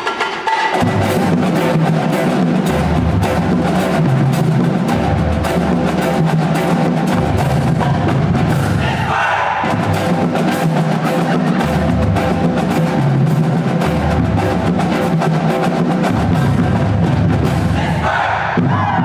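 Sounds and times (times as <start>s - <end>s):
drums beating: 0.0s - 19.0s
marching band playing: 0.0s - 19.0s.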